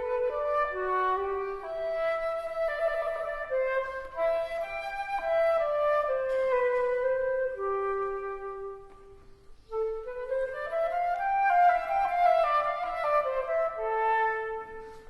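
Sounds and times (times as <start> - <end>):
slow woodwind melody: 0.0 - 15.0.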